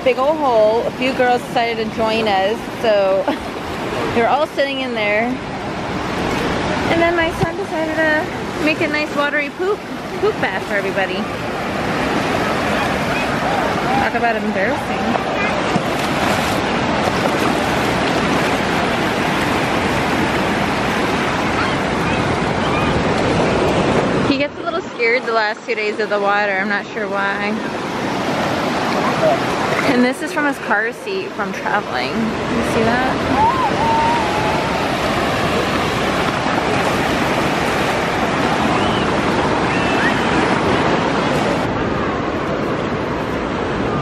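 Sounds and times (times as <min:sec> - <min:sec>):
surf washing over sand: 0:00.0 - 0:44.0
wind on microphone: 0:00.0 - 0:44.0.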